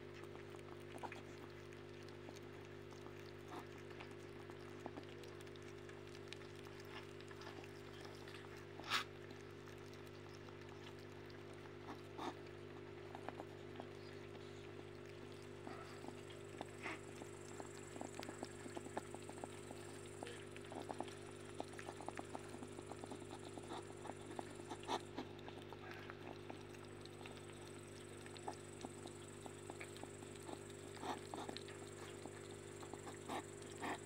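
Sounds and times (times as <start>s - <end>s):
faint low hum: 0.0s - 34.0s
hedgehogs chewing and smacking: 0.0s - 34.0s.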